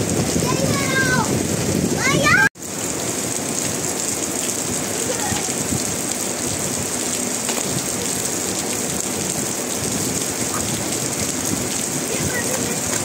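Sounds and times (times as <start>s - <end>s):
rain on brick paving: 0.0s - 13.0s.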